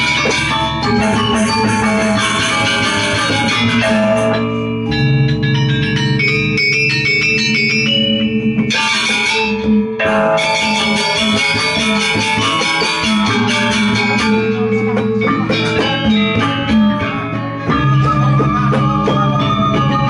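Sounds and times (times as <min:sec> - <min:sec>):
drums: 0:00.0 - 0:20.0
gongs: 0:00.0 - 0:20.0
metallophones ringing: 0:00.0 - 0:20.0.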